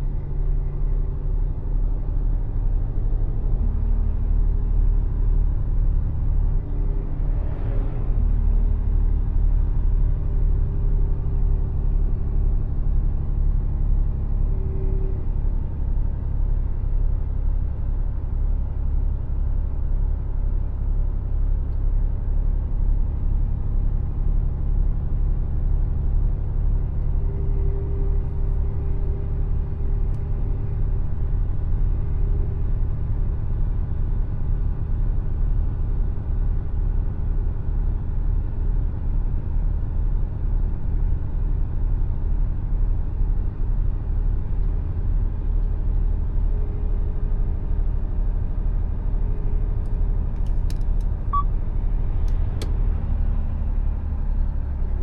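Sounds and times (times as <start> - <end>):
truck diesel engine rumble: 0.0 - 55.0
tyres on the road: 0.0 - 55.0.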